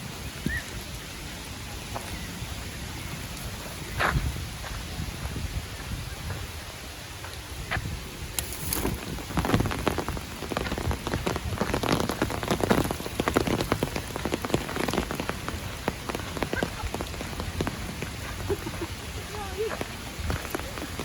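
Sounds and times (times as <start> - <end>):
light rain drops: 0.0 - 21.0.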